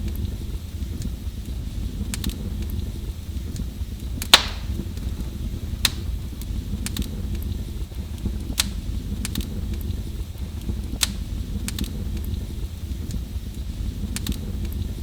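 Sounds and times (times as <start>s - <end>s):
fire low rumble: 0.0s - 15.0s
wood fire crackling: 0.0s - 15.0s
sharp fire pops: 2.0s - 15.0s.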